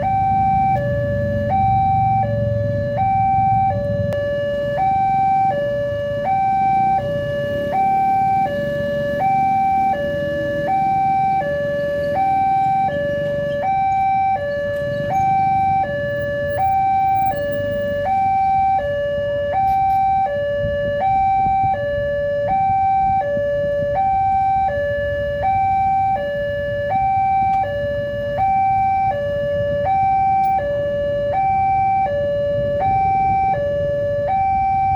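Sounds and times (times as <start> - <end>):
level crossing two-tone warning signal: 0.0 - 34.9.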